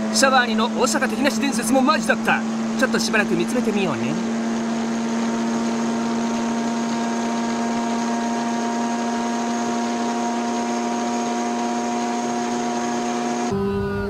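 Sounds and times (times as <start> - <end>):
car engine at high revs: 0.0 - 14.0
wind and road noise: 0.0 - 14.0.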